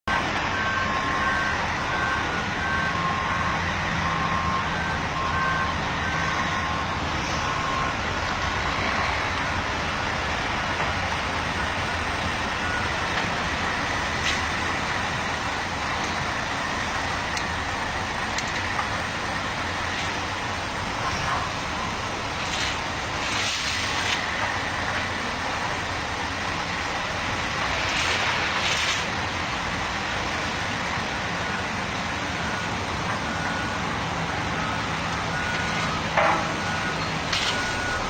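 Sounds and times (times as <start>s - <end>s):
truck engine running: 0.0s - 38.0s
reversing alarm beeping: 0.1s - 26.0s, 30.6s - 38.0s.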